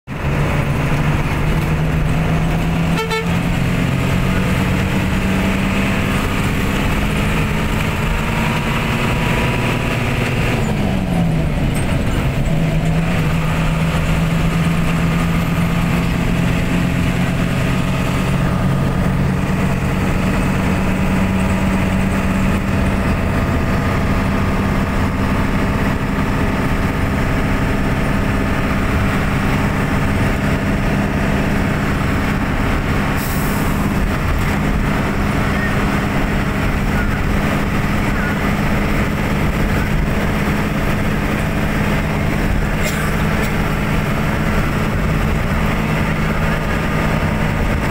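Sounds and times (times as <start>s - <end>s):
tyre and road noise: 0.1s - 47.9s
vehicle engine running: 0.1s - 47.9s.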